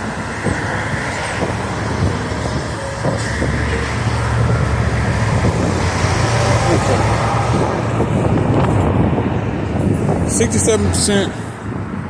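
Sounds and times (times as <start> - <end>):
passing vehicles rumbling: 0.0 - 12.0.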